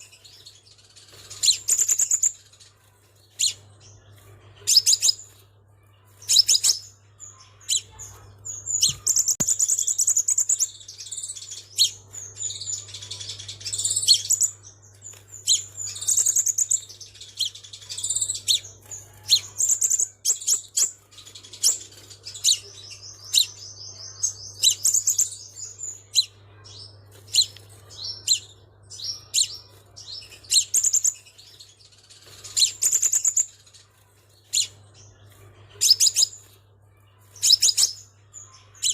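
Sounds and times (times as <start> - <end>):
sunbird singing high chirps: 0.0 - 38.9.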